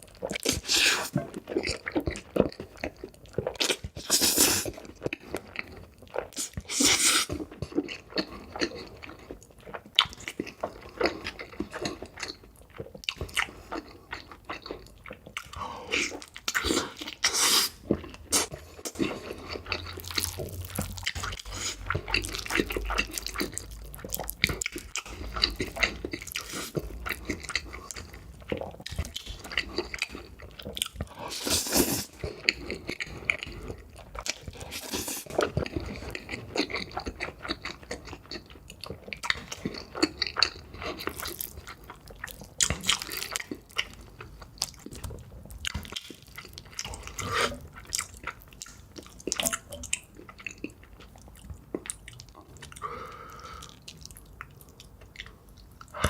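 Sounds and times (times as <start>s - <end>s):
chewing noodles: 0.0s - 56.0s.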